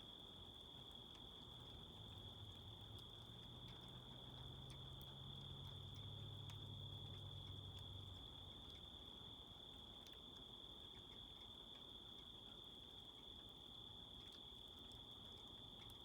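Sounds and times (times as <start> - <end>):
faint ticks: 0.0 - 16.0.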